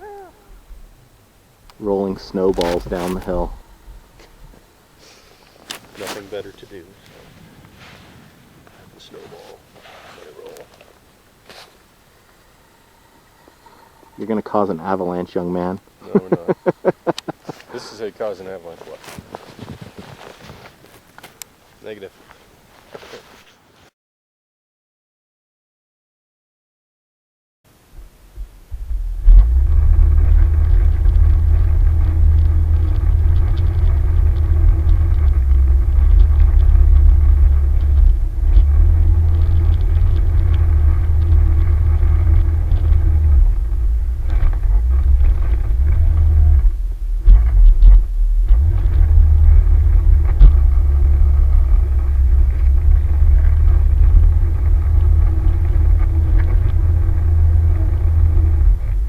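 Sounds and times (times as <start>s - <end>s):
off-road vehicle engine rumbling: 0.0s - 23.3s, 28.0s - 59.0s.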